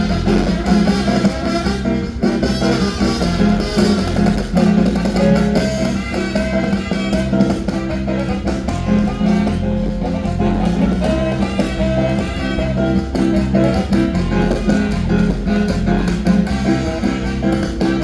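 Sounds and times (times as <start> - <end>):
band playing dance music: 0.0 - 18.0
bass line: 0.0 - 18.0.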